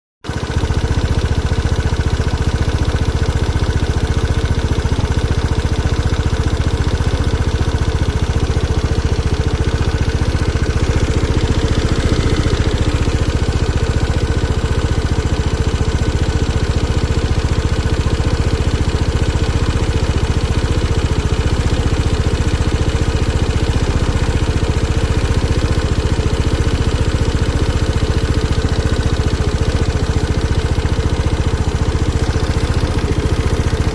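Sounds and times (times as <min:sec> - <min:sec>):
scooter engine idling: 0:00.2 - 0:33.9.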